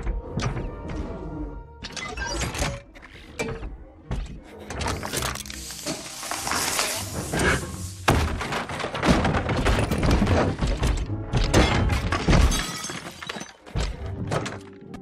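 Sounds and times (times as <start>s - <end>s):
music: 0.0s - 7.4s, 9.6s - 15.0s.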